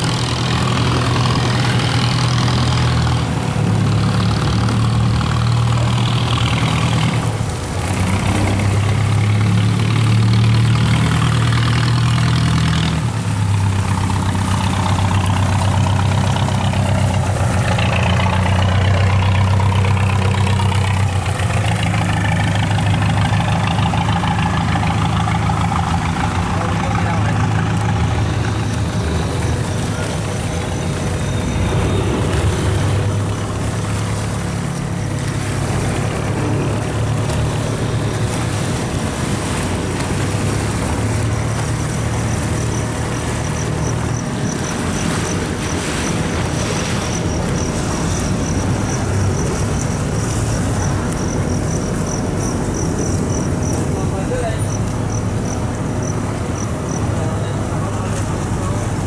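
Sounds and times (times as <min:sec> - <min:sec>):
boat engines running: 0:00.0 - 0:59.0
water rushing in wake: 0:00.0 - 0:59.0.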